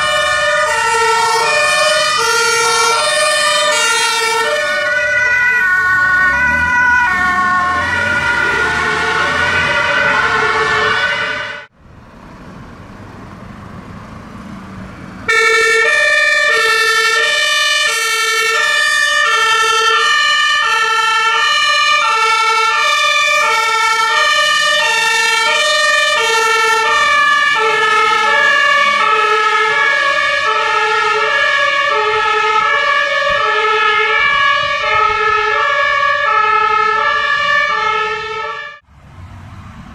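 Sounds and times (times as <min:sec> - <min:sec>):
two-tone emergency siren: 0:00.0 - 0:11.7, 0:15.3 - 0:38.9
traffic noise: 0:00.0 - 0:39.9.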